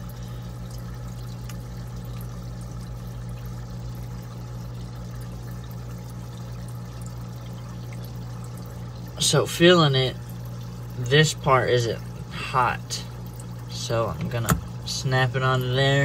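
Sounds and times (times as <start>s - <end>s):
air pump humming: 0.0s - 16.0s.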